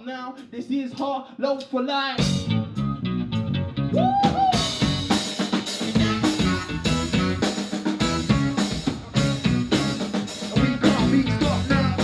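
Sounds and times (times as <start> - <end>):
bass line: 2.2 - 12.0
live band music: 2.2 - 12.0.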